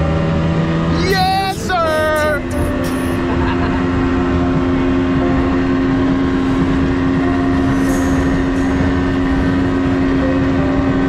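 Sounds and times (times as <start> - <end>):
motorboat engine running: 0.0 - 11.0
steady rushing noise: 0.0 - 11.0.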